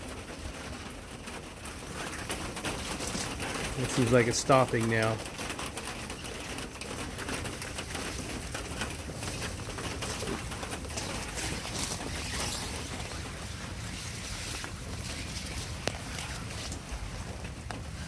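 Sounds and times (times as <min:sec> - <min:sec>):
rain on greenhouse: 0:00.0 - 0:18.0.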